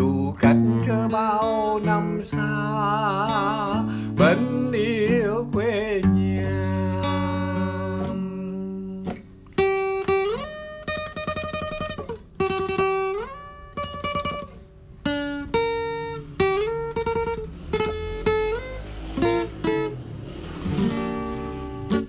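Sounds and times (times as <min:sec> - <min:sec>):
plucked string melody: 0:00.0 - 0:22.0.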